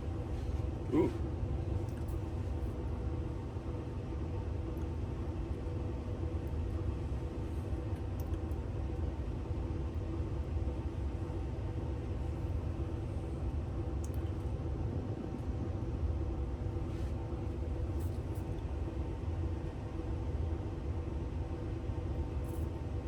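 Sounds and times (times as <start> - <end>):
faint hum: 0.0 - 23.0.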